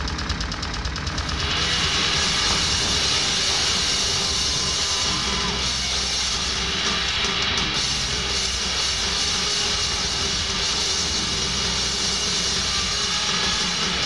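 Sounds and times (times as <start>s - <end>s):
dense droning music: 0.0s - 14.0s.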